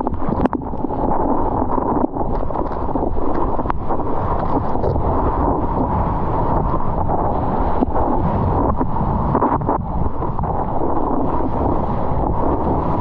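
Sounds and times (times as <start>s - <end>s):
water rushing and splashing: 0.0s - 13.0s
wind buffeting microphone: 0.0s - 13.0s.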